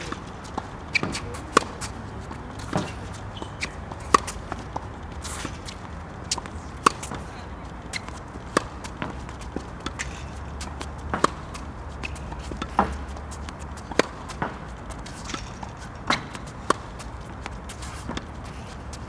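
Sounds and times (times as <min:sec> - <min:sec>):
tennis ball struck and bouncing: 0:00.0 - 0:19.0.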